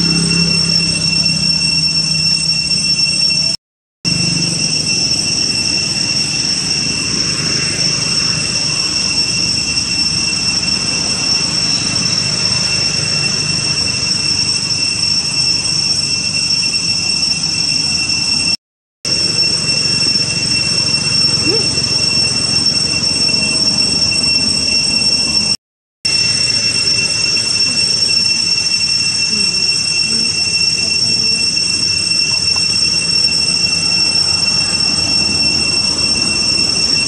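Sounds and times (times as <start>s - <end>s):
cicadas droning: 0.0s - 18.5s, 19.1s - 25.5s, 26.1s - 37.0s.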